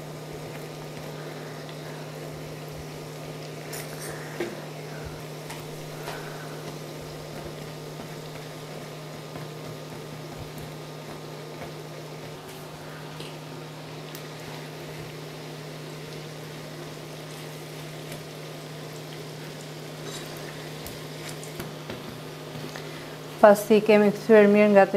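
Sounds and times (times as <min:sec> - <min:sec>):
pancakes sizzling in hot oil: 0:00.0 - 0:23.8
cooktop humming: 0:00.0 - 0:24.9.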